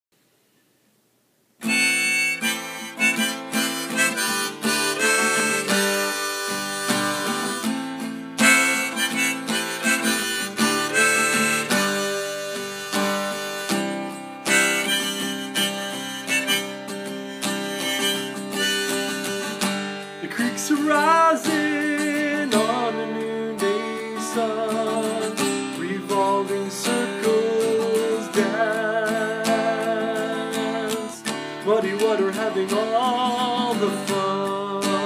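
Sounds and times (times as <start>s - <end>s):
harmonica melody: 1.6s - 35.0s
strummed acoustic guitar: 1.6s - 35.0s.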